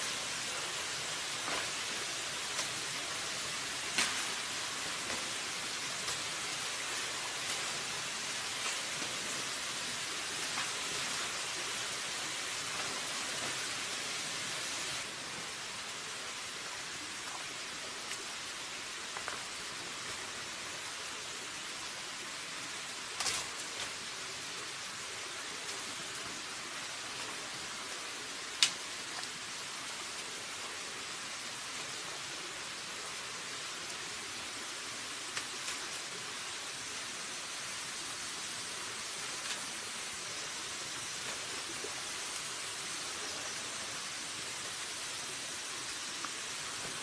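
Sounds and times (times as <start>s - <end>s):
rain-like hiss: 0.0s - 47.0s.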